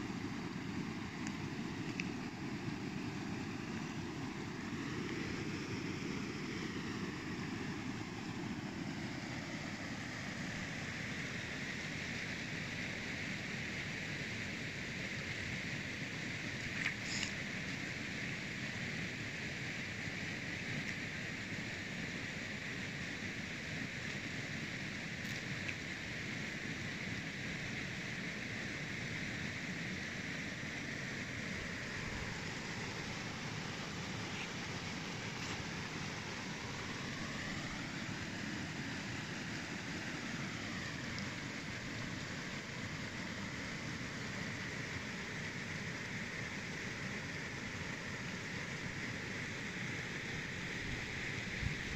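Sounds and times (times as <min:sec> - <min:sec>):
mountain stream rushing: 0:00.0 - 0:15.6, 0:22.5 - 0:51.9.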